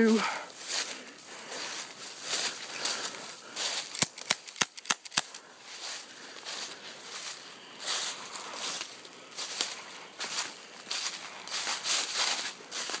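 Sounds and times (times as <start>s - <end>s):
leaves rustling underfoot: 0.0s - 13.0s.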